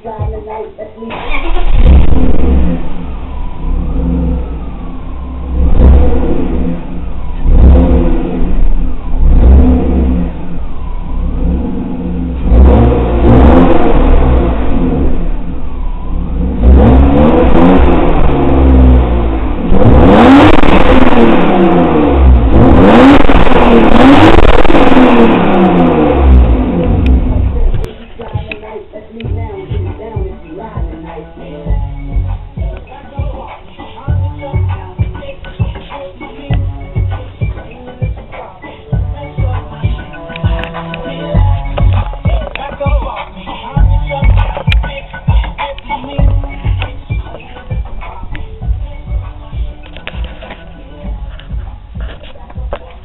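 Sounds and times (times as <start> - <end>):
car engine revving: 1.1 - 53.0.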